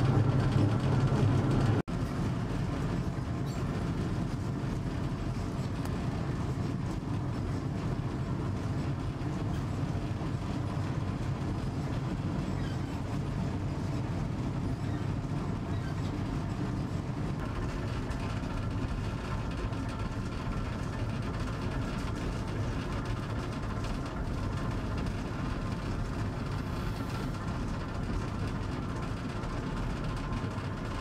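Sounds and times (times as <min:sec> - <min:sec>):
diesel train rumbling on track: 0:00.0 - 0:31.0.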